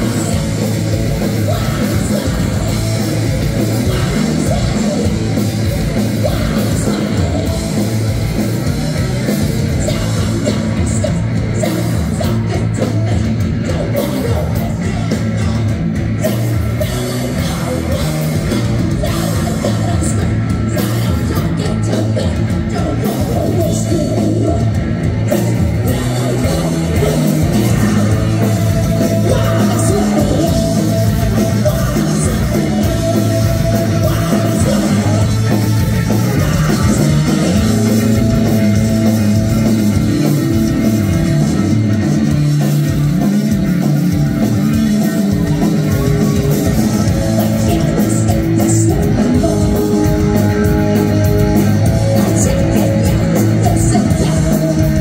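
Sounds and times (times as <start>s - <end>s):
bass guitar: 0.0s - 55.0s
distorted electric guitars: 0.0s - 55.0s
drum kit: 0.0s - 55.0s
person singing: 0.0s - 55.0s.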